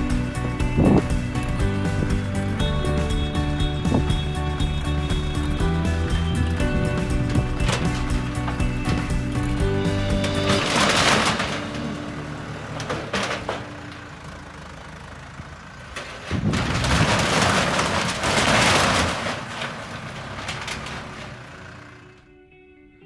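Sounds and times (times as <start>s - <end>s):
clattering: 0.0s - 14.7s, 15.8s - 22.2s
diesel tractor running: 0.0s - 22.4s.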